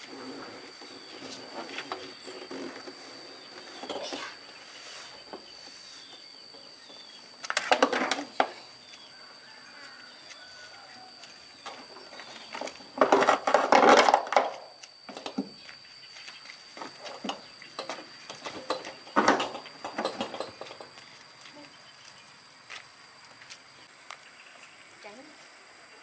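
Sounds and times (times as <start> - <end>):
high-pitched whine: 0.0 - 26.0.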